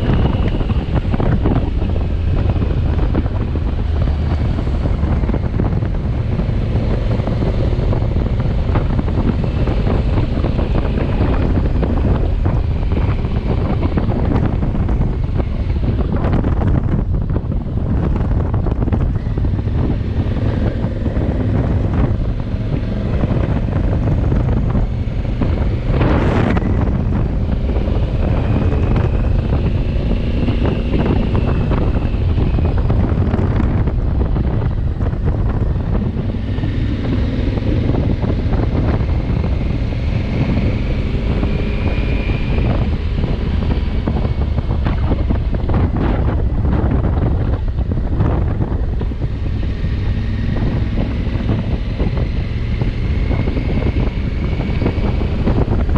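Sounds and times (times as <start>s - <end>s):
motorcycle engine: 0.0s - 55.9s
road noise: 0.0s - 55.9s
wind buffeting microphone: 0.0s - 55.9s.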